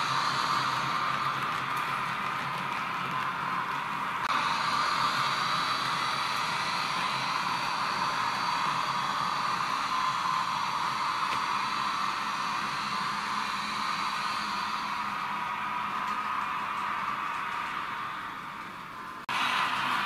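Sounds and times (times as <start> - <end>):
model locomotive whirring hiss: 0.0 - 20.0.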